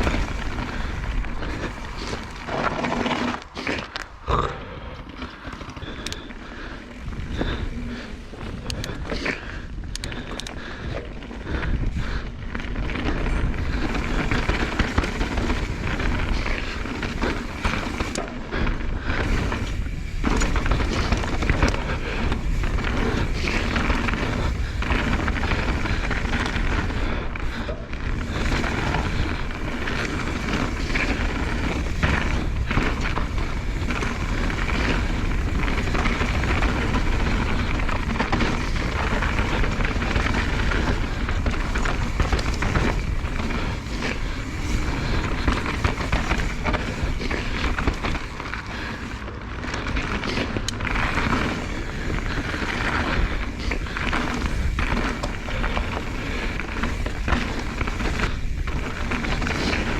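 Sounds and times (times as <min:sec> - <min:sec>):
bike rattling over bumps: 0:00.0 - 0:59.9
tyre and wind noise: 0:00.0 - 0:59.9.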